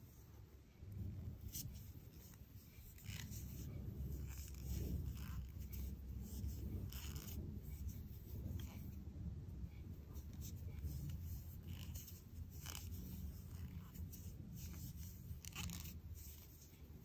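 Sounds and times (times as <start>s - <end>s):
yarn rustling over crochet hook: 0.0s - 9.0s, 9.7s - 17.0s
low steady hum: 0.0s - 17.0s.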